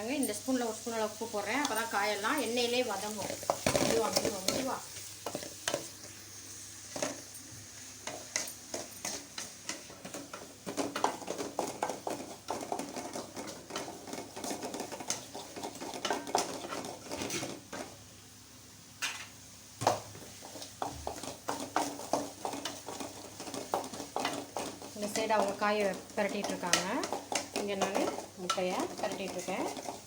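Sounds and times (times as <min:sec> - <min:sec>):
vegetables frying in oil: 0:00.0 - 0:30.0
metal spoon scraping a pan: 0:01.5 - 0:17.9, 0:20.3 - 0:30.0.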